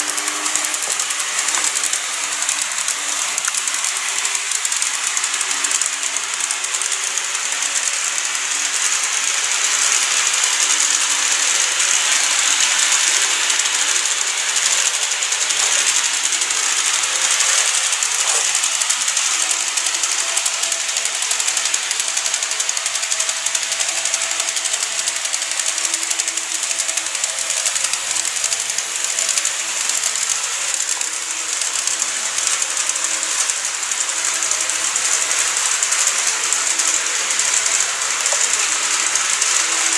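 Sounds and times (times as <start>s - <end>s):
model train motor whirring: 0.0s - 39.9s
wheels hissing on rails: 0.0s - 39.9s.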